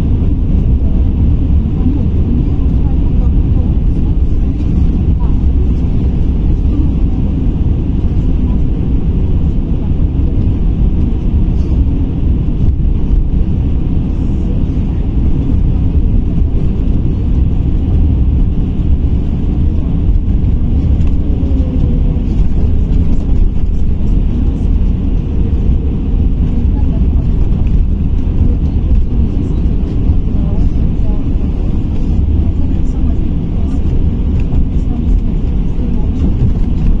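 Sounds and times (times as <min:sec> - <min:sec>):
road and tyre rumble in bus: 0:00.0 - 0:37.0.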